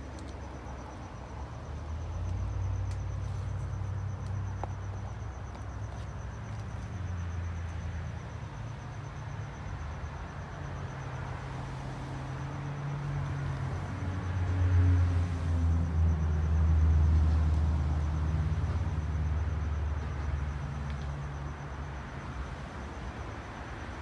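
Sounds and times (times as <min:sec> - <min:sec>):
cricket trilling: 0:00.0 - 0:24.0.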